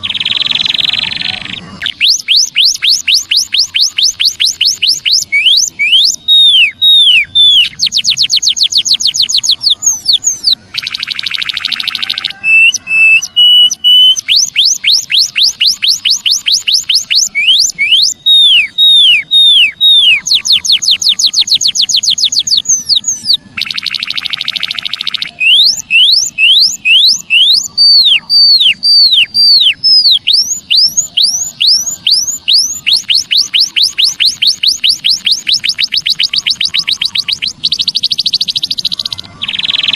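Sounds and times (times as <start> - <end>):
bird buzzy trill: 0.0 - 39.9
bird whistled notes: 0.0 - 39.9.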